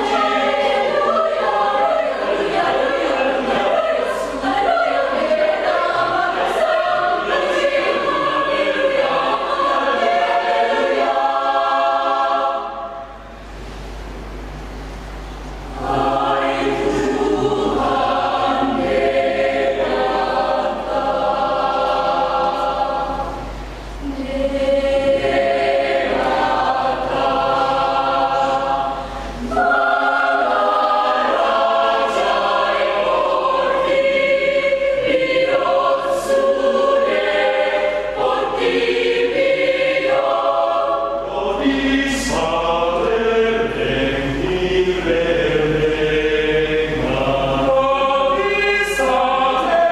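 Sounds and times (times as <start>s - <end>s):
choir singing a hymn: 0.0s - 13.4s, 15.7s - 49.9s.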